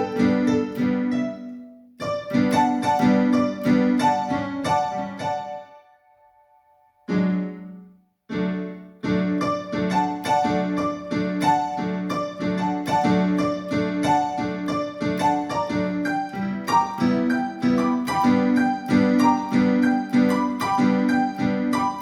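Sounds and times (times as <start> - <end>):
keyboard playing piano voice: 0.0 - 22.0.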